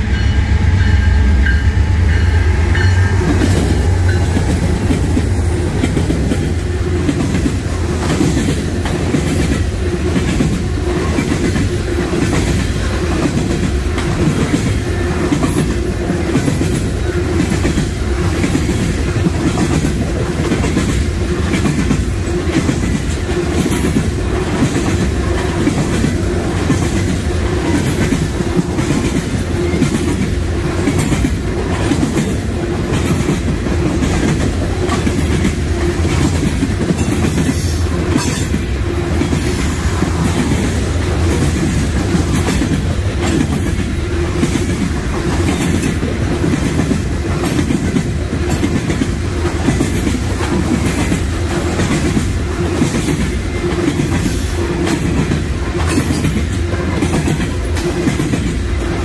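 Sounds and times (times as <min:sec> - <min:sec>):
low train running noise: 0:00.0 - 0:59.0
train wheels clacking on rails: 0:00.0 - 0:59.0.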